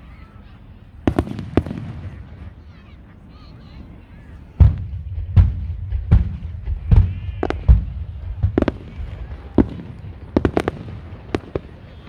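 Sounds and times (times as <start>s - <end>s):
fireworks booms and cracks: 0.7s - 12.0s.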